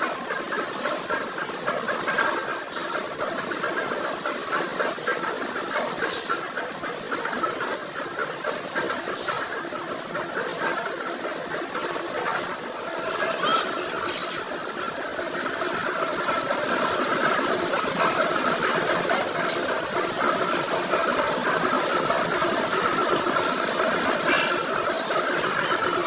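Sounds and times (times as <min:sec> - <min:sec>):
workshop machinery humming: 0:00.0 - 0:26.0.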